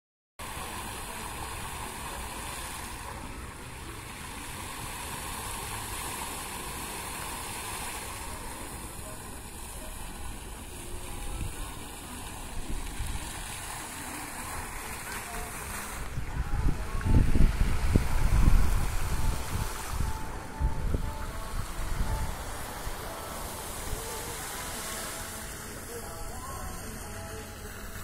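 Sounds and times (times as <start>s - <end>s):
fountain water splashing: 0.4s - 28.0s.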